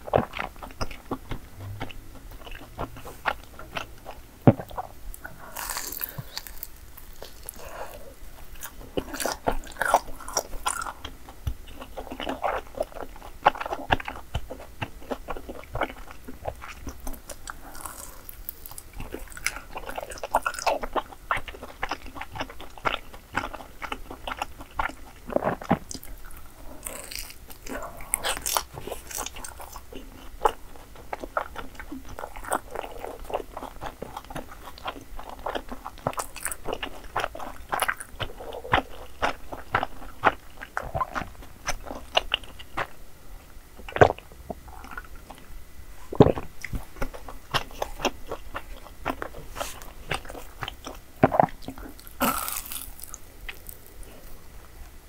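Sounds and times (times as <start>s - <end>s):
chewing crisp food: 0.0s - 55.0s.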